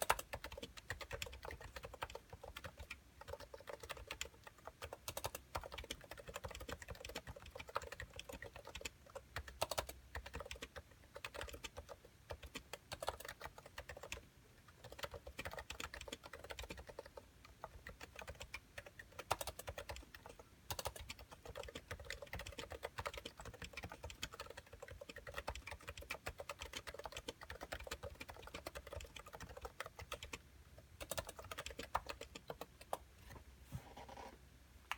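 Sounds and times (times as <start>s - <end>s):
keyboard typing: 0.0s - 33.4s.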